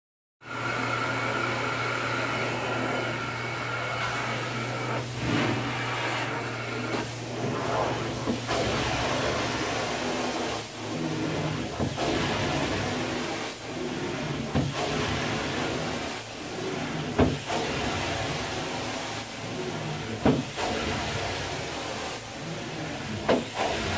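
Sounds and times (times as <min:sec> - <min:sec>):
carpet extractor drone and hiss: 0:00.4 - 0:23.9.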